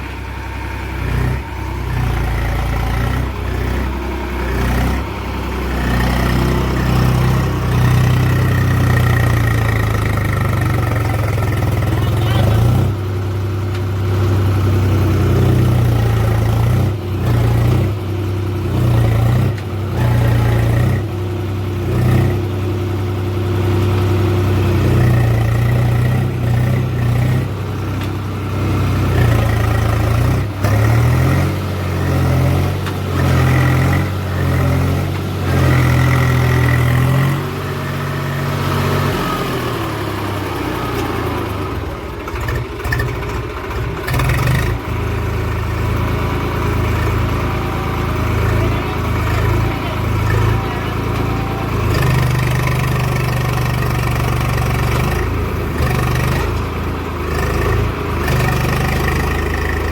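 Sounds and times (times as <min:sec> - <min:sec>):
tractor diesel engine: 0:00.0 - 0:59.9.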